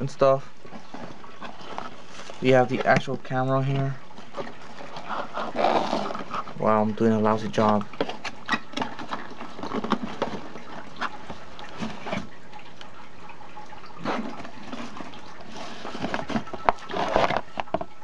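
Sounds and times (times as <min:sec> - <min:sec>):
cardboard rustling and scraping: 0:00.6 - 0:12.4, 0:14.0 - 0:17.9.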